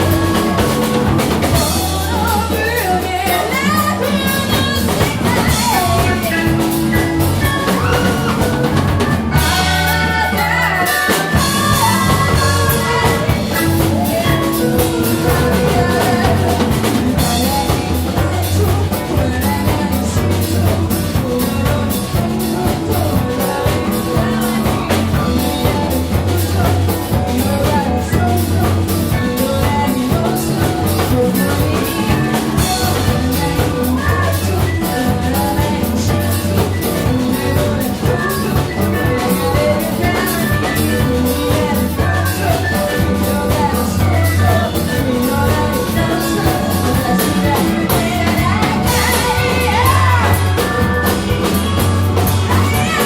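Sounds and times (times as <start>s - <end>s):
band music: 0.0s - 53.0s
drum kit steady beat: 0.0s - 53.0s.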